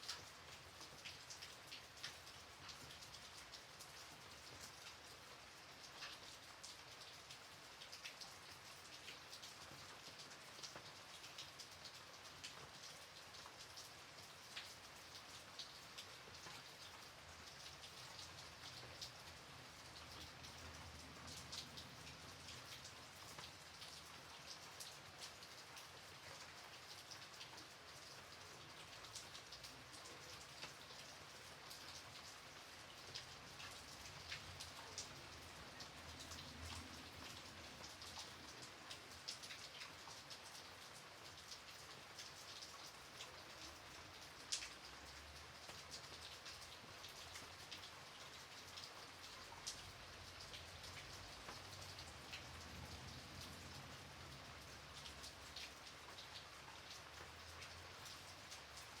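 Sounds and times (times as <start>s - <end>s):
light rain pattering: 0.0s - 59.0s
raindrops ticking on surface: 0.0s - 59.0s.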